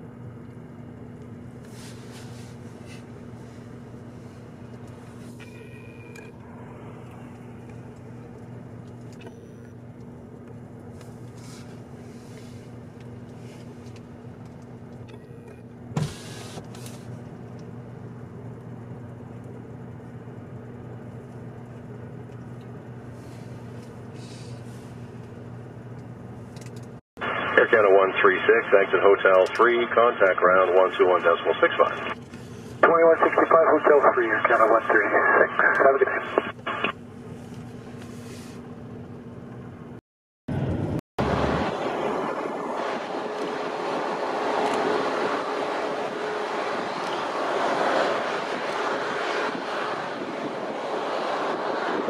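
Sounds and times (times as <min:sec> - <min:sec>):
low hum: 0:00.0 - 0:52.0.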